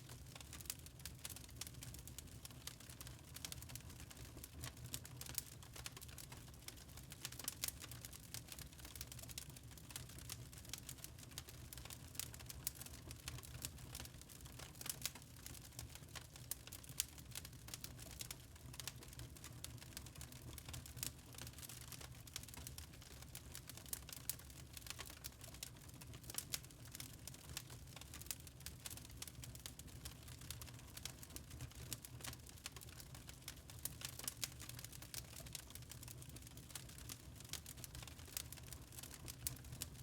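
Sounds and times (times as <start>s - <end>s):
log fire crackling: 0.0s - 40.0s.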